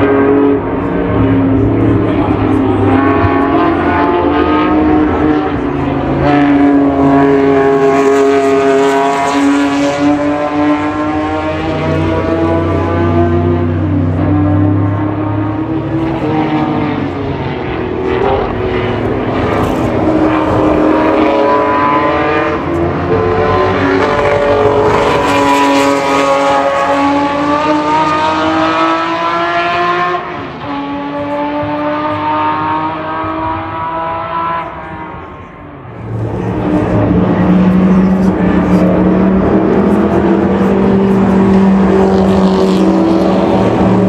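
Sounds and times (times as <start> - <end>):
racing car engines passing: 0.0 - 44.0.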